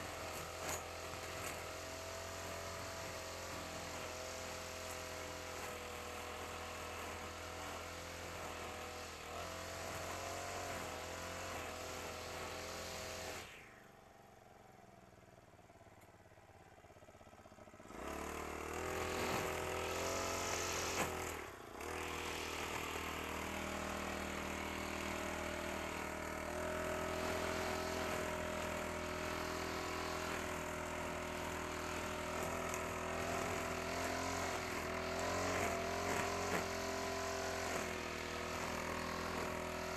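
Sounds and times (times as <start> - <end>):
brush cutter engine cutting grass: 0.0 - 13.8, 15.6 - 39.9.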